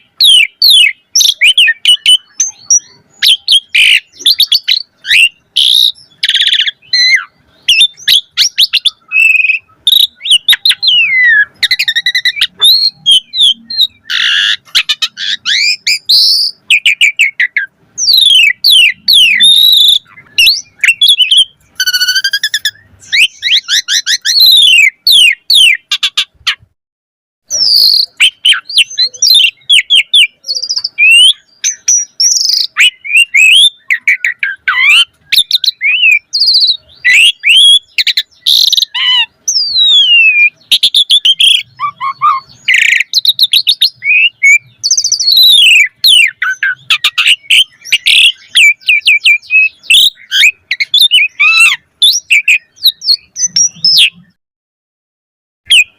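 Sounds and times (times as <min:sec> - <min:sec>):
starling singing: 0:00.0 - 0:26.7, 0:27.5 - 0:54.4, 0:55.7 - 0:55.9.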